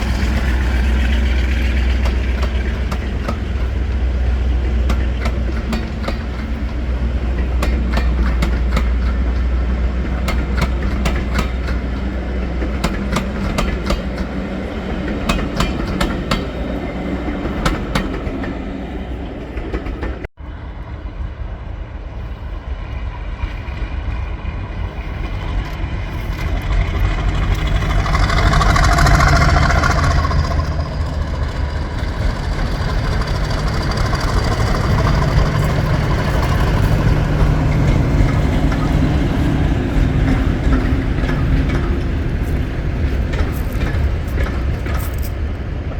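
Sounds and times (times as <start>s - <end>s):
train wheels clicking over joints: 0.0s - 20.3s, 23.0s - 45.9s
diesel locomotive engine drone: 0.0s - 45.9s.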